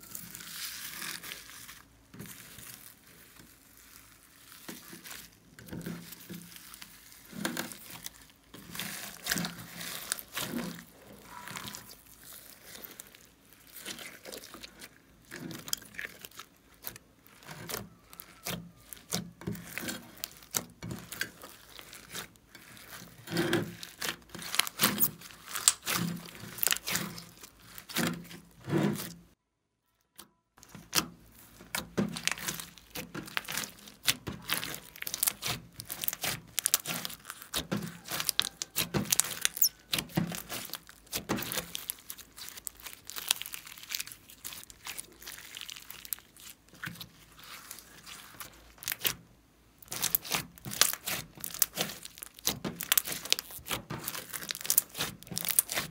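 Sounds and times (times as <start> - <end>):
slime squelching and popping: 0.0 - 29.3, 30.2 - 55.9.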